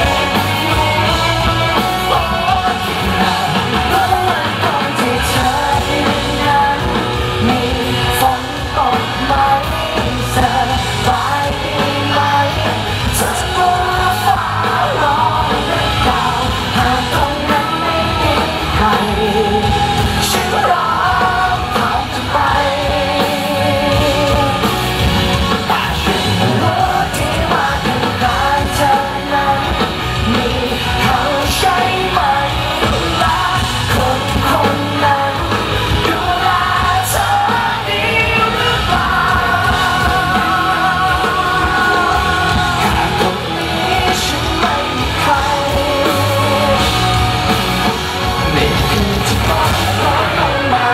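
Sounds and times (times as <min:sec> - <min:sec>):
live band playing pop-rock: 0:00.0 - 0:50.9
man singing into microphone: 0:00.0 - 0:50.9.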